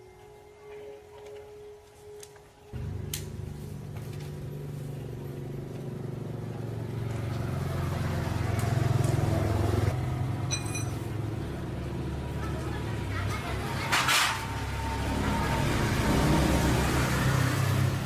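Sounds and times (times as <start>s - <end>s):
motorbike engine starting and revving: 2.8s - 18.0s.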